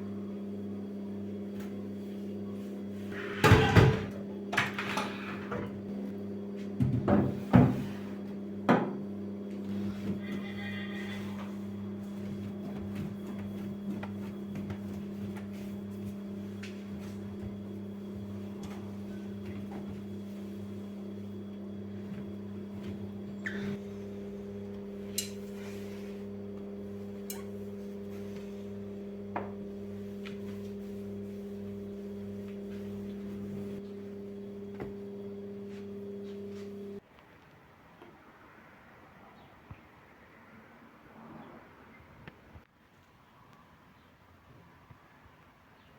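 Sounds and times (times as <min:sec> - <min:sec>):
electric appliance hum: 0:00.0 - 0:37.1.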